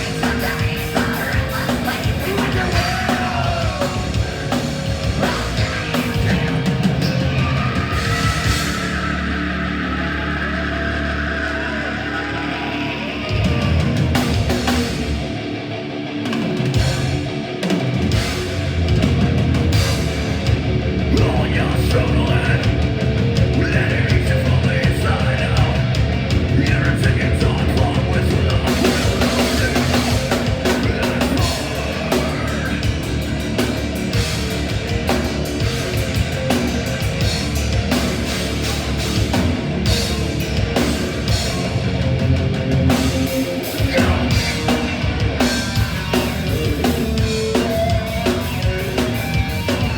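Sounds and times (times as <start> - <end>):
fast double-bass drumming: 0.0 - 10.4, 13.3 - 15.6, 16.3 - 49.9
heavy metal band playing: 0.0 - 49.9.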